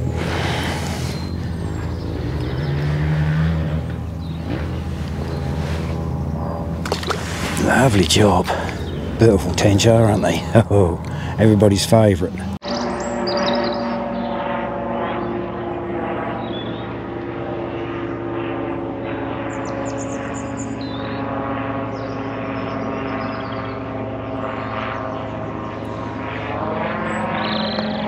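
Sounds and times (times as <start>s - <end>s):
propeller aircraft droning: 0.0s - 28.0s.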